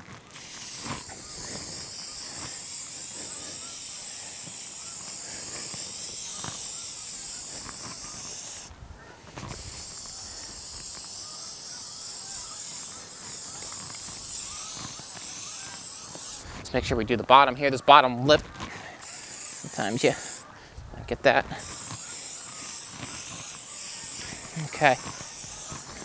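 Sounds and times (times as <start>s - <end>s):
aerosol can spraying: 0.0s - 8.7s, 9.4s - 16.5s, 19.0s - 20.5s, 21.5s - 26.0s.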